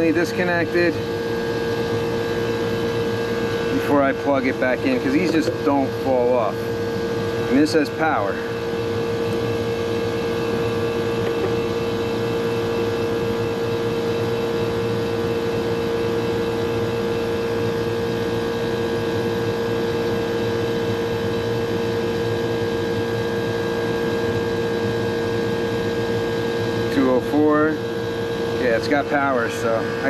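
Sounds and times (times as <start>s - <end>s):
air conditioning unit humming: 0.0s - 30.0s.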